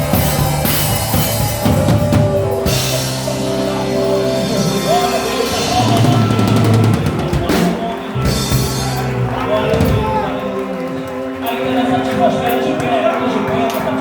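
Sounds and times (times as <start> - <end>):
bass guitar: 0.0 - 12.8
band playing: 0.0 - 14.0
drum kit: 0.0 - 14.0
held chords: 0.0 - 14.0.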